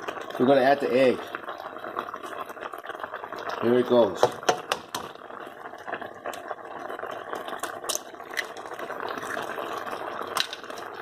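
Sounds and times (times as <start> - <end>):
sauce simmering with popping bubbles: 0.0 - 11.0.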